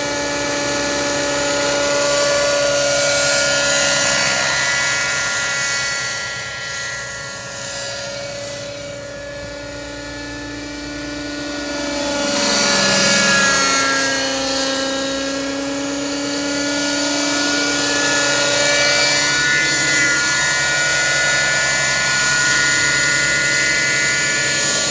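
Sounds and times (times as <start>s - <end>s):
model helicopter engine whine: 0.0s - 24.9s.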